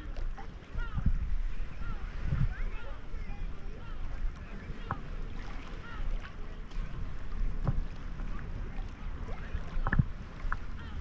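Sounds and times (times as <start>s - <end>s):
low rumble of water: 0.0s - 11.0s
water splashing and lapping: 0.0s - 11.0s.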